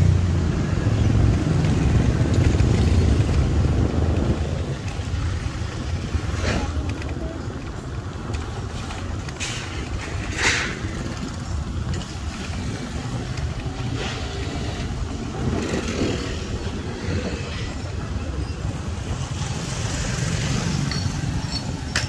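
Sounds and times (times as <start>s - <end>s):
street traffic passing: 0.0s - 22.0s
wind rumble on microphone: 0.0s - 22.0s.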